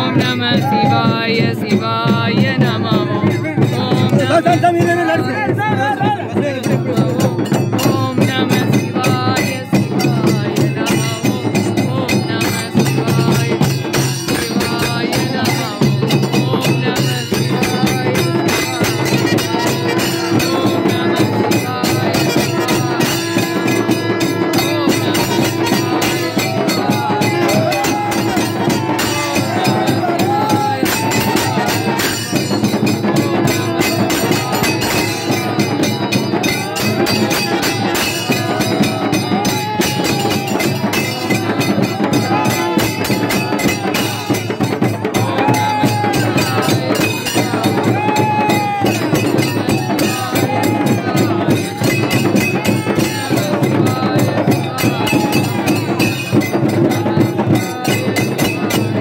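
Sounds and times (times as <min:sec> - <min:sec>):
fast drumming: 0:00.0 - 0:59.0
jingling percussion: 0:00.0 - 0:59.0.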